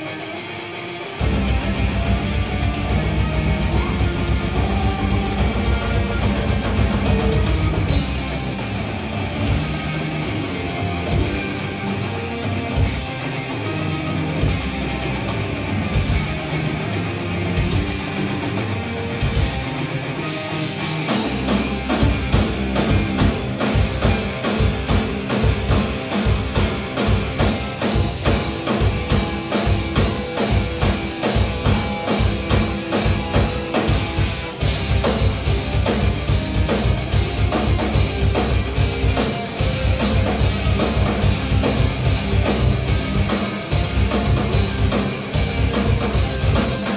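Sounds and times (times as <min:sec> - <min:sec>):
bass guitar: 0:00.0 - 0:46.9
electric guitar: 0:00.0 - 0:46.9
drum kit beat: 0:00.6 - 0:46.9.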